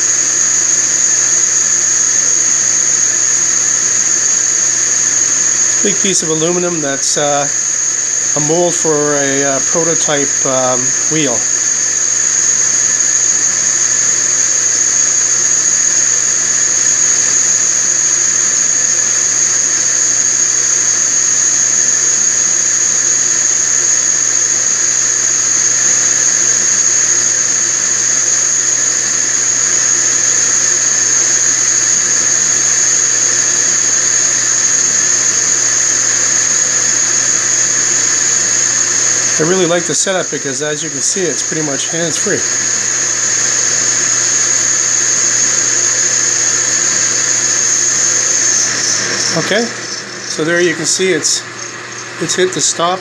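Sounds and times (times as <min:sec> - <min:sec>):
lathe high-pitched whine: 0:00.0 - 0:53.0.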